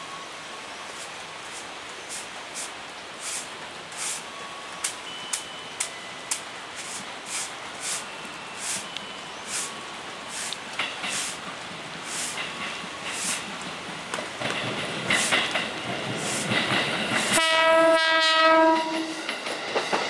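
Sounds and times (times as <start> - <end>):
heavy rain falling: 0.0 - 19.8.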